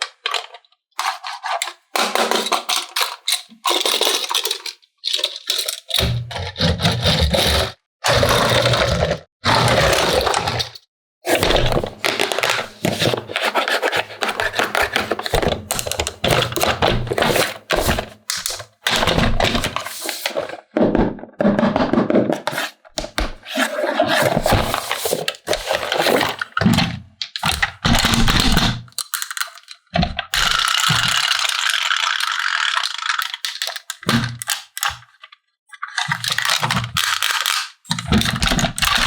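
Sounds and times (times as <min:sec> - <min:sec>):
plastic toy parts scraping: 0:00.1 - 0:39.0.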